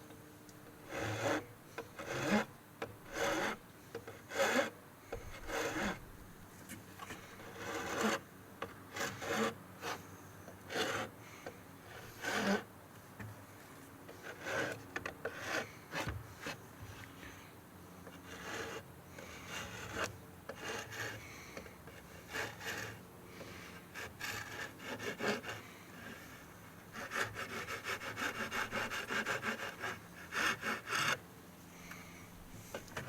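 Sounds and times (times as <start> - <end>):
hand tool scraping wood: 0.8 - 6.1, 6.8 - 13.3, 14.1 - 33.0.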